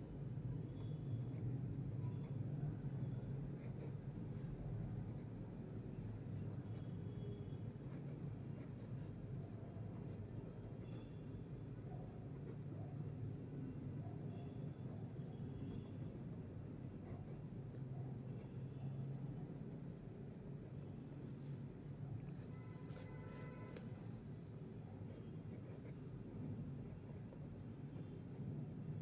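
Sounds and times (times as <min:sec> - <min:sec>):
pen scratching on paper: 0:00.6 - 0:19.7, 0:22.7 - 0:24.2, 0:24.9 - 0:28.2.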